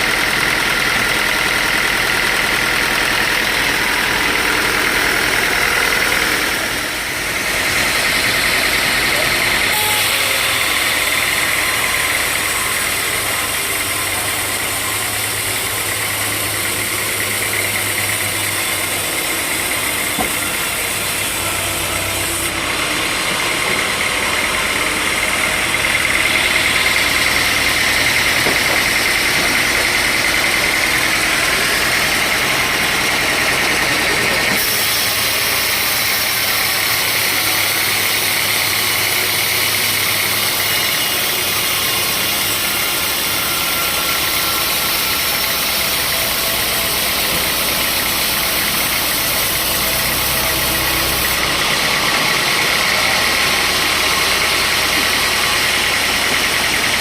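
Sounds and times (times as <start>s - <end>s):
log saw whining: 0.0s - 57.0s.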